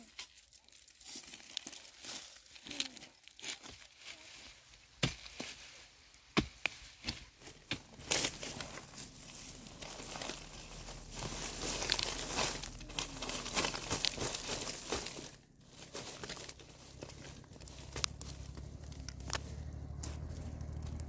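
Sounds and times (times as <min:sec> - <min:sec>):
dry material crackling and rustling: 0:00.0 - 0:21.0.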